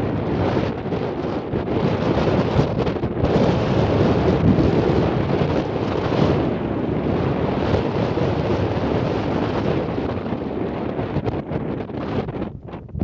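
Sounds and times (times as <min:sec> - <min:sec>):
wind blowing on microphone: 0:00.0 - 0:13.0.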